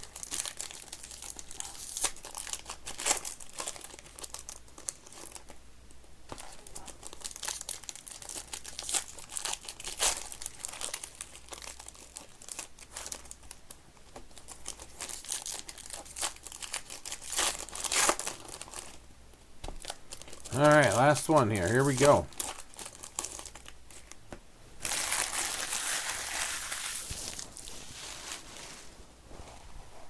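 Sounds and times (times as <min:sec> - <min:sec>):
foil wrappers crinkling: 0:00.0 - 0:05.6, 0:06.4 - 0:19.0, 0:19.8 - 0:24.2, 0:24.8 - 0:28.9.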